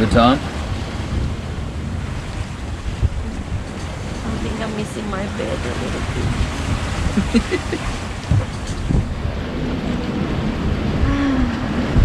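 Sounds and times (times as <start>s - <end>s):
sea rushing against hull: 0.0s - 12.0s
wind buffeting microphone: 0.0s - 12.0s
gusty thumps: 0.5s - 12.0s.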